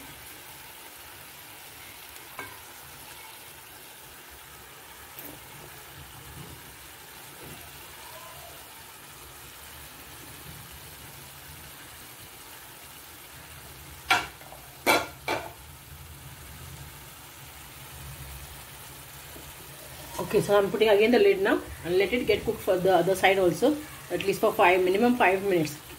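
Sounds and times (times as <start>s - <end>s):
chicken sizzling in oil: 0.0s - 25.9s.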